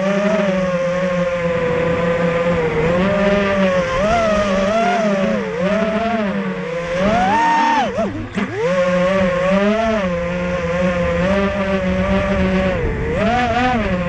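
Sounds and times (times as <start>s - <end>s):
drone motors buzzing whine: 0.0s - 14.0s.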